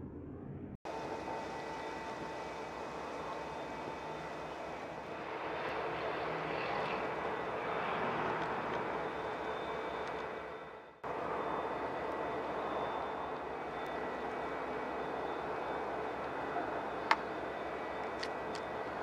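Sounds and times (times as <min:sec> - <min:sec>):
diesel locomotive drone: 0:00.0 - 0:19.0.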